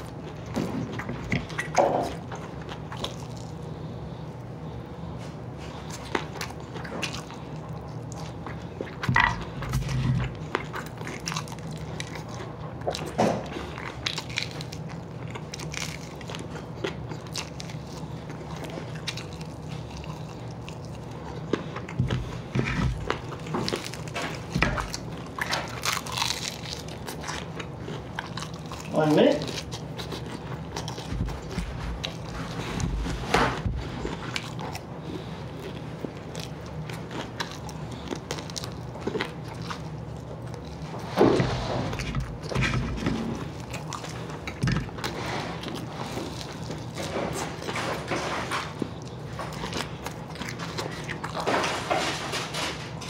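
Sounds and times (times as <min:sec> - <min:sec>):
crunchy chewing: 0:00.0 - 0:53.0
steady low hum: 0:00.0 - 0:53.0.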